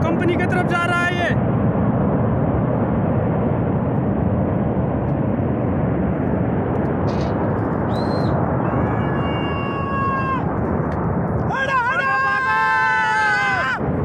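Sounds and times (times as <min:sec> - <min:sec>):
flash flood roaring: 0:00.0 - 0:14.0.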